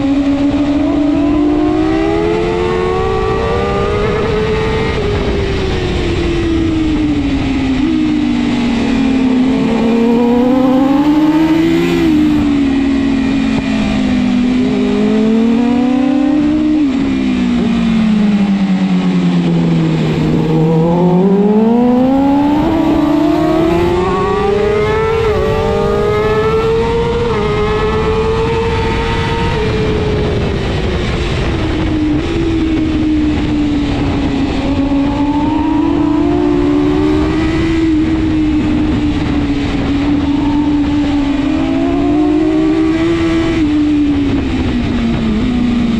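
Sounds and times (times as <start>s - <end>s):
motorcycle engine racing: 0.0s - 45.9s.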